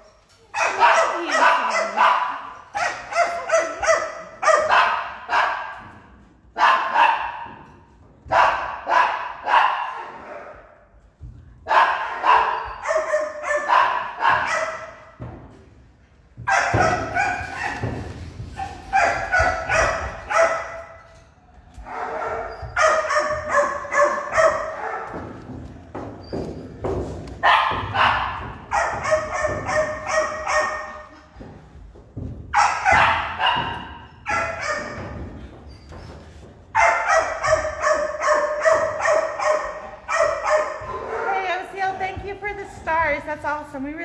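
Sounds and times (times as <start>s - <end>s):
dogs barking in kennel: 0.0s - 11.0s, 11.6s - 15.2s, 16.4s - 31.5s, 32.4s - 41.8s.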